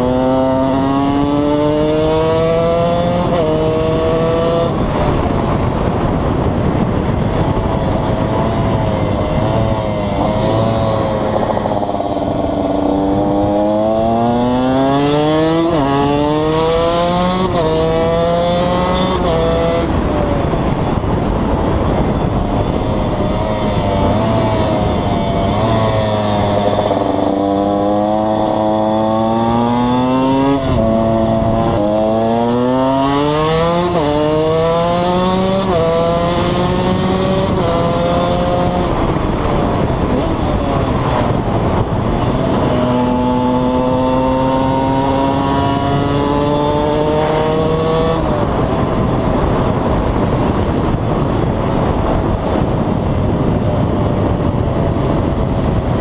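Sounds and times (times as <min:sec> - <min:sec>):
two-stroke engine revving and shifting: 0:00.0 - 0:56.0
wind noise: 0:00.0 - 0:56.0.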